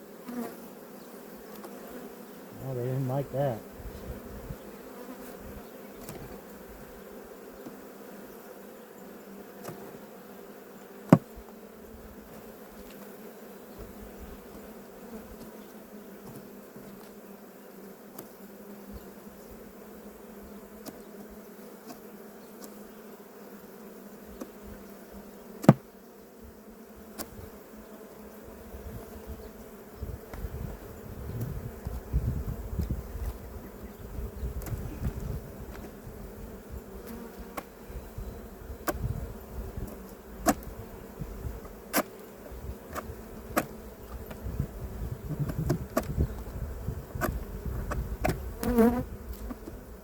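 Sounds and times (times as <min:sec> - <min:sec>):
bees buzzing: 0:00.0 - 0:50.0.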